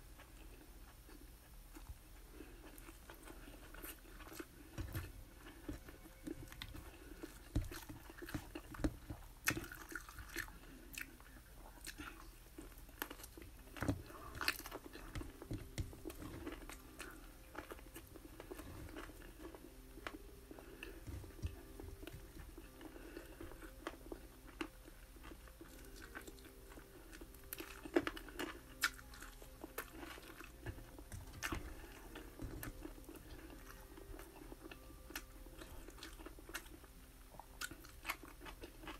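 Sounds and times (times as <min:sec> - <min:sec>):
faint steady hum: 0:00.0 - 0:38.9
person chewing and crunching: 0:00.0 - 0:38.9.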